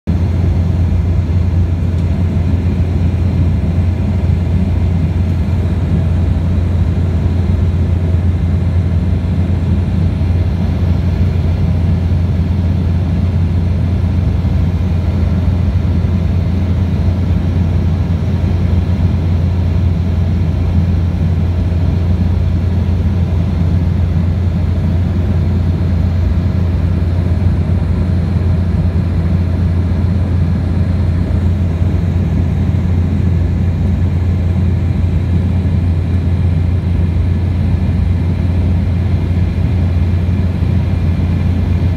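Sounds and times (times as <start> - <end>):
jet airliner cabin drone: 0.1 - 41.9.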